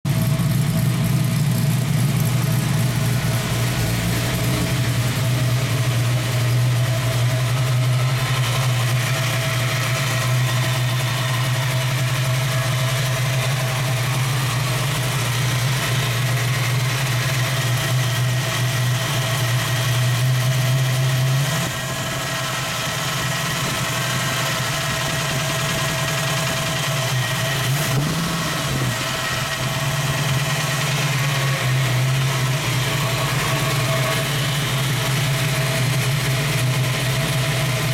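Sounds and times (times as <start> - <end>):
engine idling with knocking rattle: 0.0 - 37.9.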